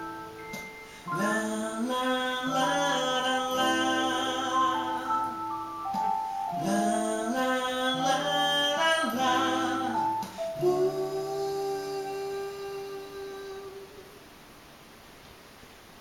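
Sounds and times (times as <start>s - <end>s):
guitar accompaniment: 0.0s - 14.2s
person singing: 0.9s - 14.2s.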